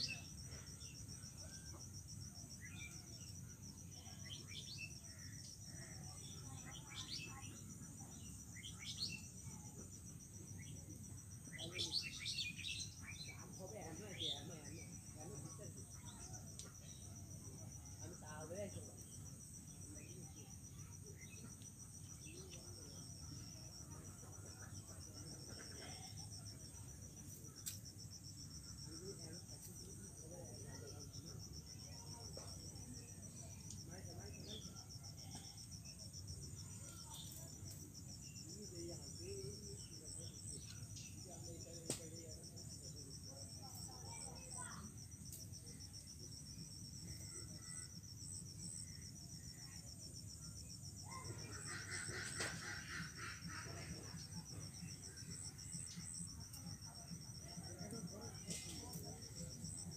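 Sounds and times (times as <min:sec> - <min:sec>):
cricket chirring: 0:00.0 - 0:59.9
insects trilling: 0:00.0 - 0:59.9.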